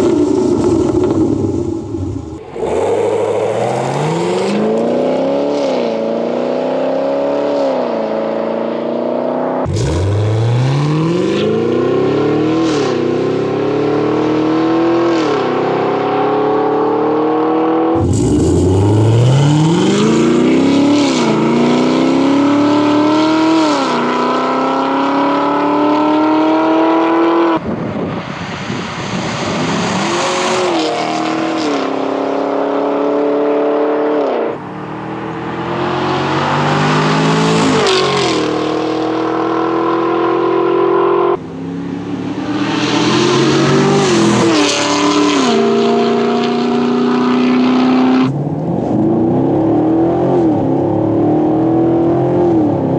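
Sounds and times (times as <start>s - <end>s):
car engine accelerating hard: 0.0s - 27.6s, 29.2s - 52.9s.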